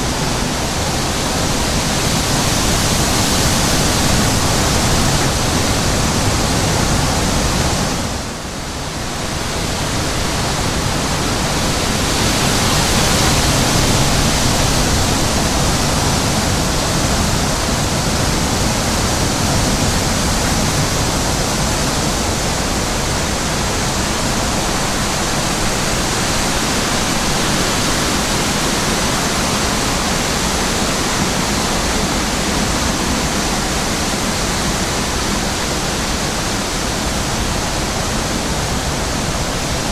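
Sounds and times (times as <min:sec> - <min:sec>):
wind blowing over microphone: 0:00.0 - 0:39.9.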